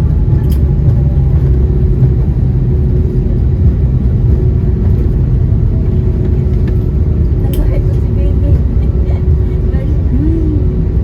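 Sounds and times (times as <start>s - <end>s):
engine and airflow rumble: 0.0s - 11.0s
steady cabin hum: 0.0s - 11.0s.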